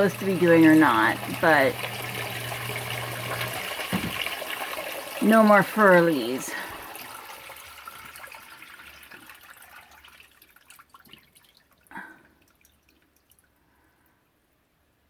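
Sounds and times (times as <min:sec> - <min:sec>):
water trickling and dripping: 0:00.0 - 0:14.2.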